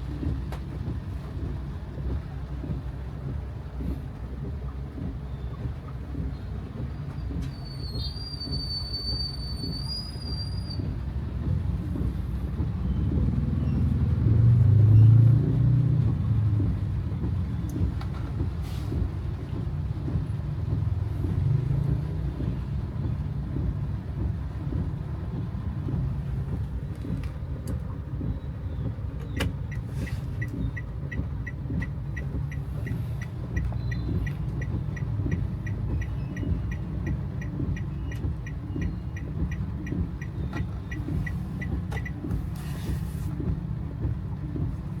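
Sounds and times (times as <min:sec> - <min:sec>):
car engine and road rumble: 0:00.0 - 0:45.0
turn signal ticking: 0:00.0 - 0:45.0.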